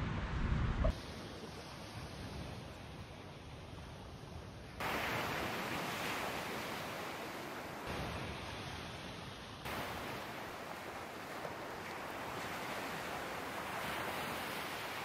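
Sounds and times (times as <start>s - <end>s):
waves washing onto sandy beach: 0.9s - 15.0s.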